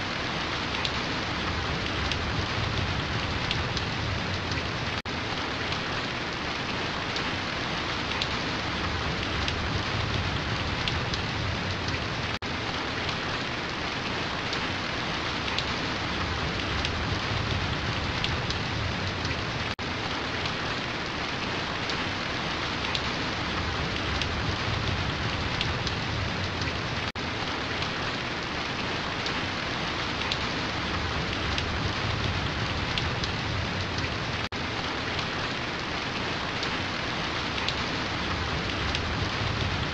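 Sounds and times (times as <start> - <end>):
heavy rain hissing and pattering: 0.0 - 39.9.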